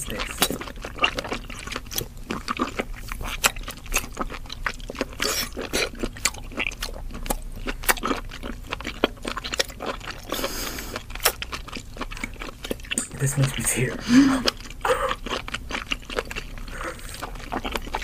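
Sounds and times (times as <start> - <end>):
person chewing with mouth clicks: 0.0 - 18.0.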